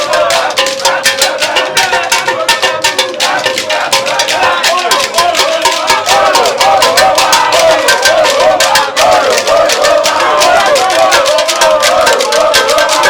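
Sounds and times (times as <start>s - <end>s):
fast shaker-like percussion: 0.0s - 13.0s
sliding melody line: 0.0s - 13.0s.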